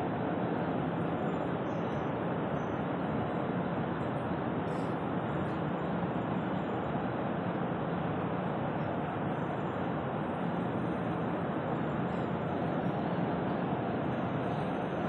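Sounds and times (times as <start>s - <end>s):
conveyor belt running: 0.0s - 15.0s.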